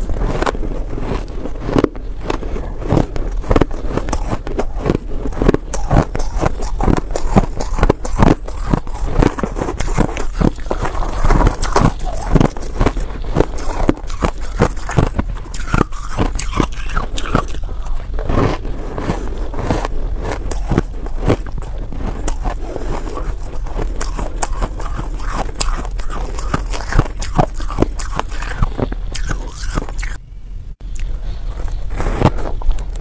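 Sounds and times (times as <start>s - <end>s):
ice crunching as it is chewed: 0.0s - 30.2s, 31.0s - 33.0s.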